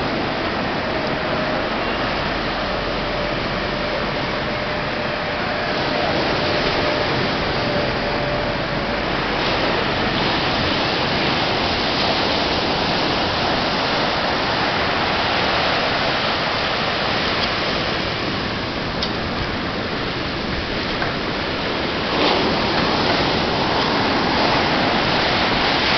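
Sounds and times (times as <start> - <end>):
sea surf rushing: 0.0 - 25.9.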